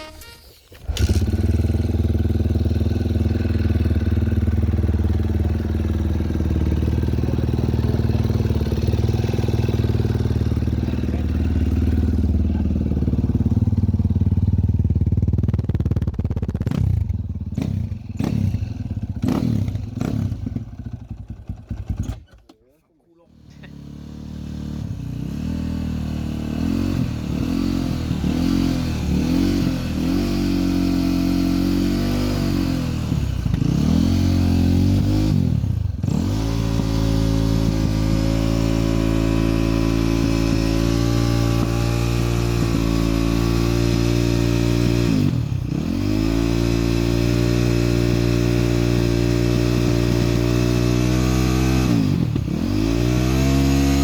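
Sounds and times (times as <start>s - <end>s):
motorcycle engine revving: 0.7s - 22.4s, 23.3s - 54.0s.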